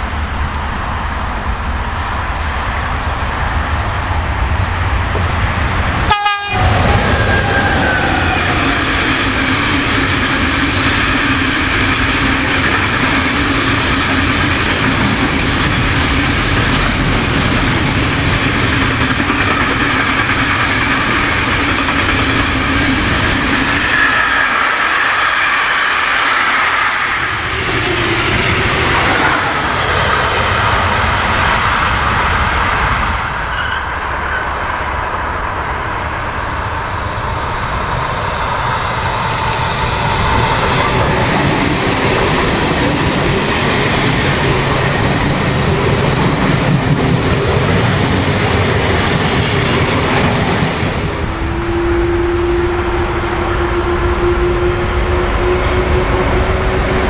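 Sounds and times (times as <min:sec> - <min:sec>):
freight train wagons rolling past: 0:00.0 - 0:57.0
passenger train rolling: 0:00.0 - 0:57.0.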